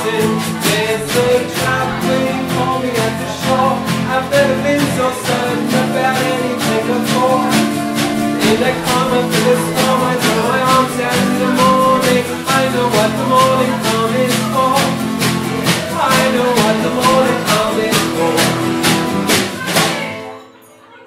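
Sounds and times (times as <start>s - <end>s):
man singing: 0.0s - 20.2s
snare drum played with brushes: 0.0s - 20.2s
strummed acoustic guitar: 0.0s - 20.6s.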